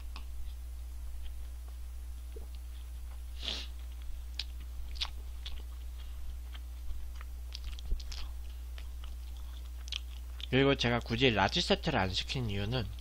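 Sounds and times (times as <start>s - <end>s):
person chewing food: 0.0s - 11.1s
low electrical hum: 0.0s - 13.0s.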